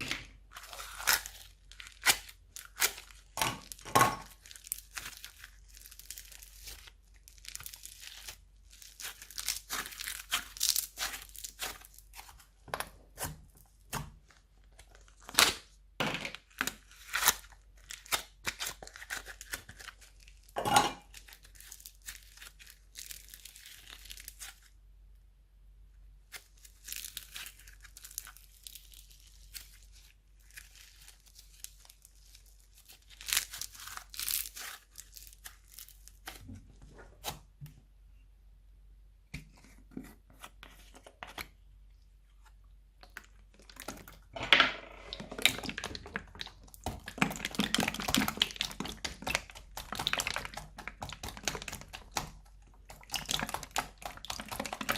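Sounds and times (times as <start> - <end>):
slime being kneaded by hand: 0.0 - 24.8, 26.2 - 37.7, 42.4 - 54.9.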